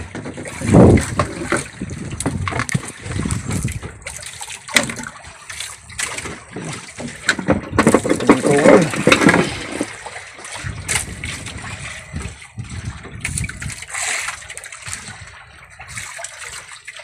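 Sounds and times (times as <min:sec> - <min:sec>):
knocks and rustles handling fish: 0:00.0 - 0:16.2
water splashing around boat: 0:00.0 - 0:17.0.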